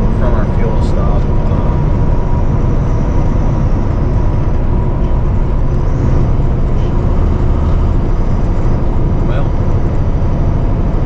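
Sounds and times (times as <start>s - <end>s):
faint steady whine: 0.0s - 11.0s
road and tyre noise: 0.0s - 11.0s
truck engine drone: 0.0s - 11.0s.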